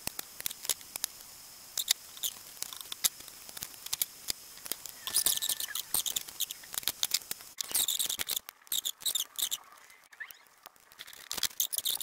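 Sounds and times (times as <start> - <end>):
metal wires rustling and scraping: 1.8 - 12.0.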